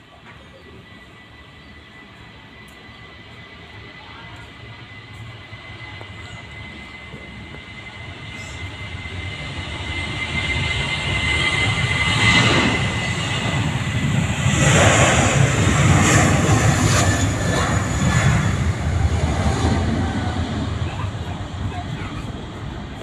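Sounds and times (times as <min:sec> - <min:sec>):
high jet whine: 0:00.0 - 0:23.0
jet engine roar: 0:00.0 - 0:23.0.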